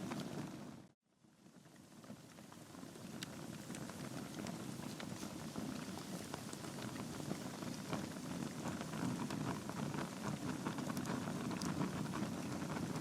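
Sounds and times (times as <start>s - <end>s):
fire crackling and popping: 0.0s - 13.0s
low rush of flame: 1.7s - 13.0s.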